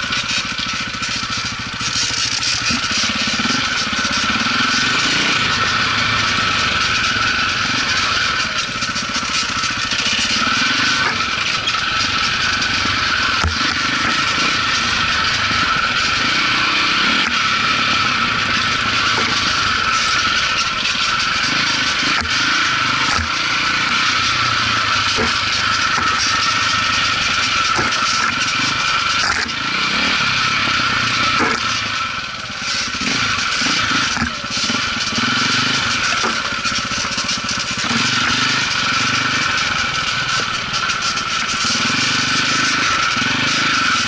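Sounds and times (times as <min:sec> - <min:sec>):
motorcycle engine running under load: 0:00.0 - 0:44.0
motorcycle knocking over rough ground: 0:06.7 - 0:29.8, 0:30.7 - 0:43.8.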